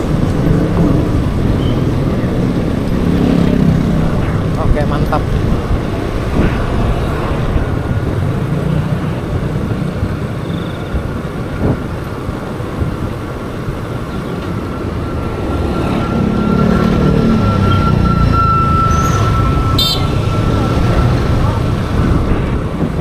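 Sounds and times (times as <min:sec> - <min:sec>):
wind rumble on microphone: 0:00.0 - 0:15.4, 0:19.4 - 0:23.0
motorbikes passing: 0:00.0 - 0:23.0.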